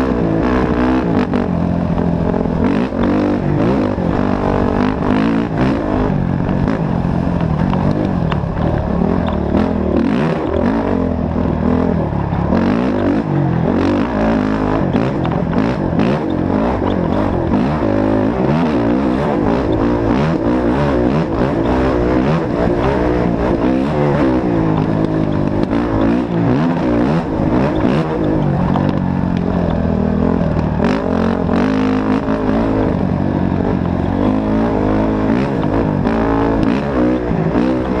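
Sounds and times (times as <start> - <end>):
vehicle engines revving: 0.0 - 38.0.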